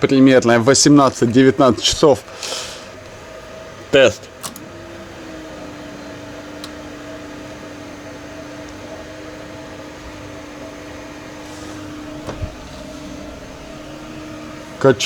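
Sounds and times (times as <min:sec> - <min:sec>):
electric fuel pump humming: 0:00.0 - 0:15.0.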